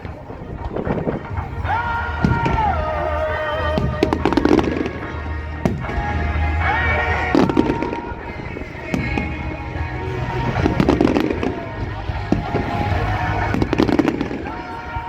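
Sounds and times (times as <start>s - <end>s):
fireworks bangs and crackles: 0.0s - 15.0s
music over loudspeakers: 0.0s - 15.0s.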